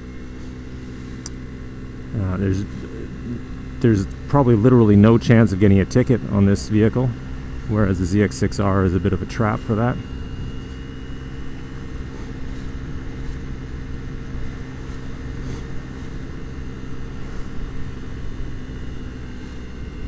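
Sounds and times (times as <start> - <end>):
scooter engine cruising: 0.0 - 20.0
wind and road noise: 0.0 - 20.0.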